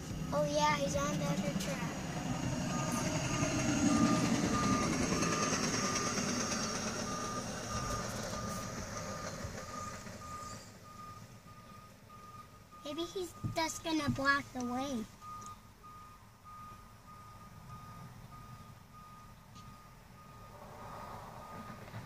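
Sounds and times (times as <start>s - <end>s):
truck running noise: 0.0s - 22.0s
backup alarm beeps: 2.6s - 14.4s, 15.2s - 21.8s.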